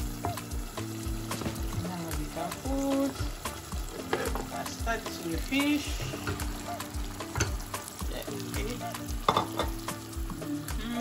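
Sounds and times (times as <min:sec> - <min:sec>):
afrobeat music: 0:00.0 - 0:11.0
food sizzling in a pot: 0:00.0 - 0:11.0.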